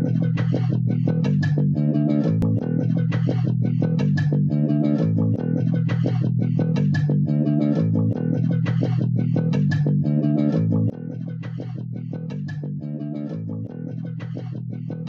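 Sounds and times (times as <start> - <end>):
instrumental music with plucked guitar: 0.0 - 15.0.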